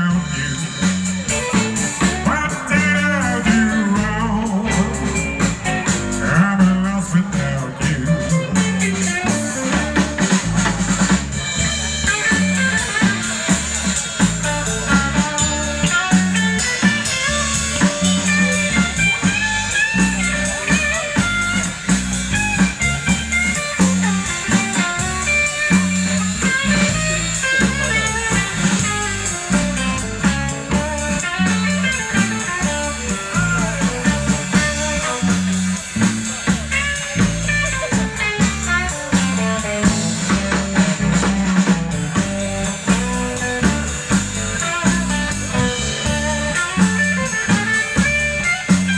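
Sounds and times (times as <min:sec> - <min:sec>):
bass guitar: 0:00.0 - 0:48.9
drum kit beat: 0:00.0 - 0:48.9
lead electric guitar: 0:00.0 - 0:48.9.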